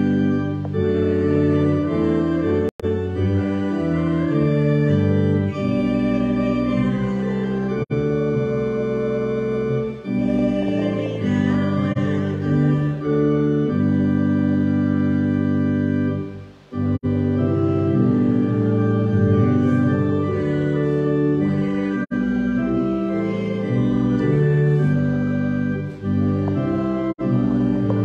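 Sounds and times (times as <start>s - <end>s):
church organ chords: 0.0s - 28.0s.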